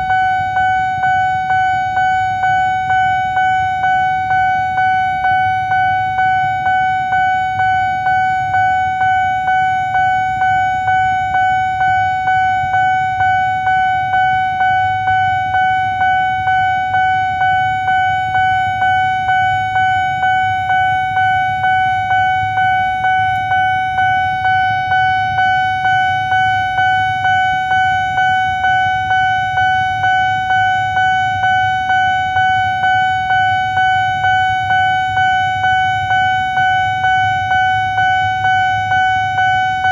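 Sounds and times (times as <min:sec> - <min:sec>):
level-crossing warning bell dinging: 0:00.0 - 0:39.9.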